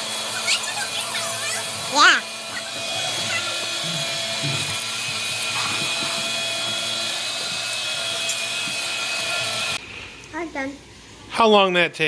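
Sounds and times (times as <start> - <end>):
small electric motor whining: 0.0 - 9.8.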